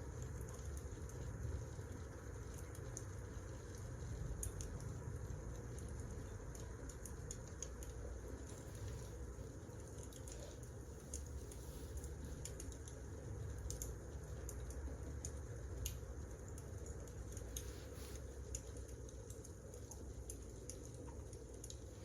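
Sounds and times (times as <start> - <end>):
low steady rumble: 0.0 - 22.0
wood fire crackling: 0.1 - 22.0.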